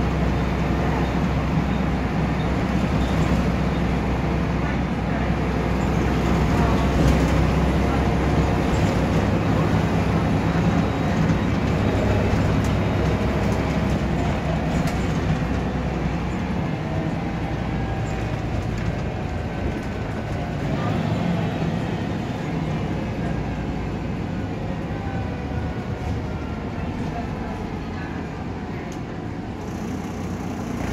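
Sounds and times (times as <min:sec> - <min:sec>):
bus diesel engine running: 0:00.0 - 0:30.9
road and tyre noise: 0:00.0 - 0:30.9.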